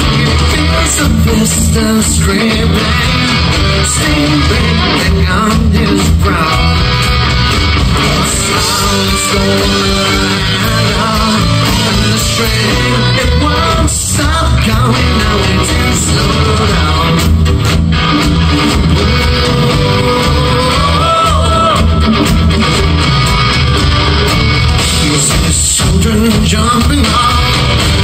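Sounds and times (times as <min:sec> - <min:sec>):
man singing lead vocal: 0:00.0 - 0:07.1, 0:07.9 - 0:17.6, 0:18.7 - 0:22.5, 0:24.8 - 0:28.0
live rock band playing: 0:00.0 - 0:28.0.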